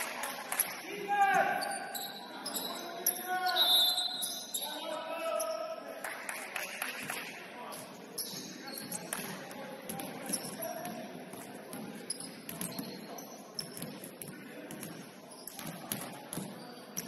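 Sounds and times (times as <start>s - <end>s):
murmur of voices: 0.0s - 17.0s
sneakers squeaking: 0.6s - 5.8s, 7.7s - 17.0s.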